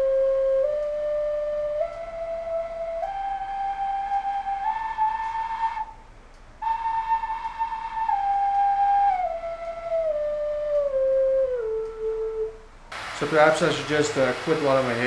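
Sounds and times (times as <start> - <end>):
wooden flute playing scale: 0.0 - 15.0.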